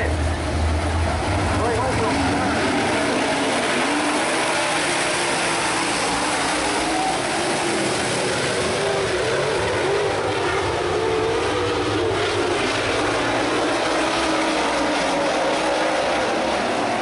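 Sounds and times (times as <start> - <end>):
racecar engines running: 0.0 - 17.0.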